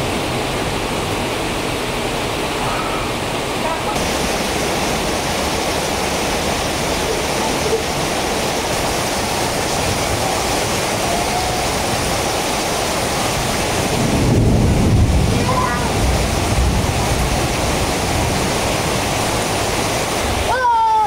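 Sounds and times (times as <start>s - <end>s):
heavy rain pouring: 0.0s - 21.0s
river flowing: 0.0s - 21.0s.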